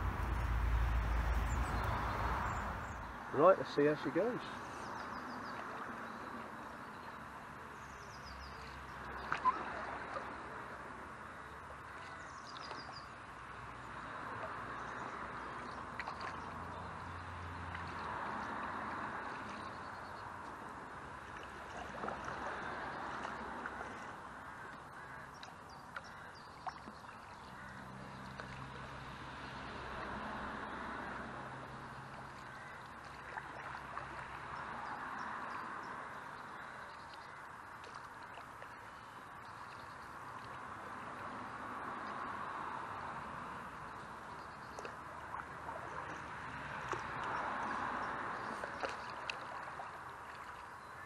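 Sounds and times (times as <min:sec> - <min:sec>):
paddle strokes in water: 0:00.0 - 0:51.0.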